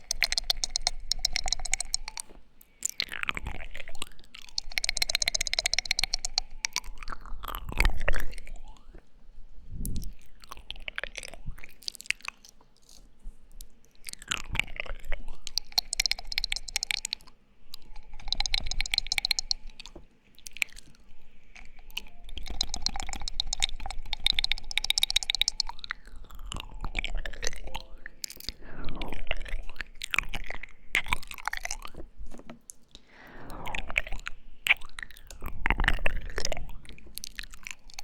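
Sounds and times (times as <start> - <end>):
wet mouth clicks and lip smacks: 0.0 - 9.1, 9.8 - 32.0, 32.6 - 38.0.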